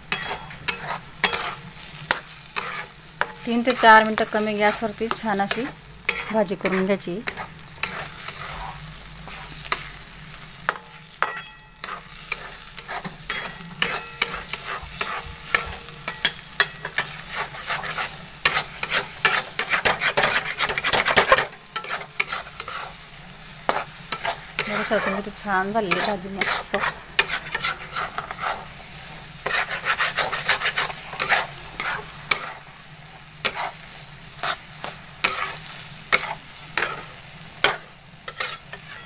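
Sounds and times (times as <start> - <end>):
metal spatula scraping a pan: 0.0 - 39.0
oil sizzling: 0.0 - 39.0.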